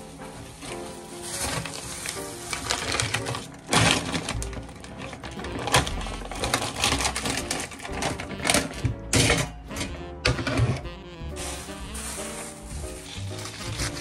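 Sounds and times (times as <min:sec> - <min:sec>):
plastic bags crinkling: 0:00.0 - 0:08.9, 0:10.4 - 0:14.0
background music: 0:00.0 - 0:14.0.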